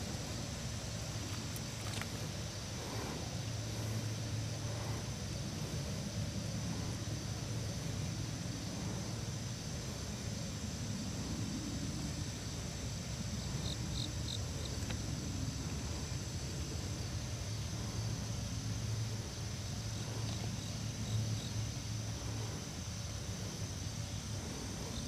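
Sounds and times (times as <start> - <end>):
insects chirring: 0.0 - 25.0
low rumbling background: 0.0 - 25.0.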